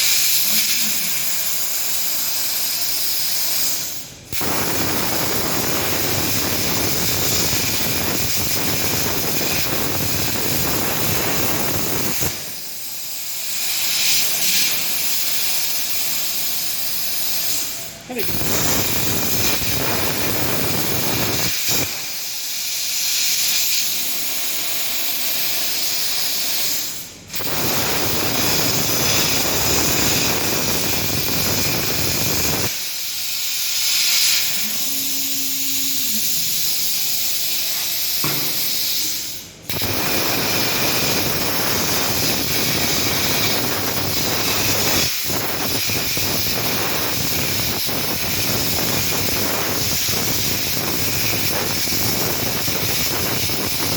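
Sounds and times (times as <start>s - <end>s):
plasma cutting torch hiss: 0.0s - 53.9s.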